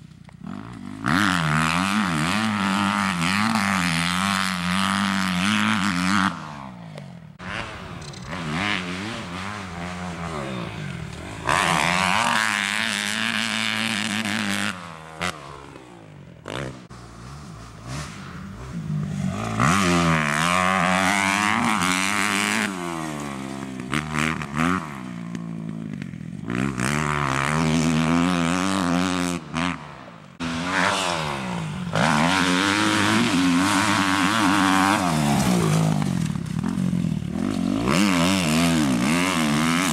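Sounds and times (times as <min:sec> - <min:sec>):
dirt bike engine revving: 0:00.3 - 0:39.9.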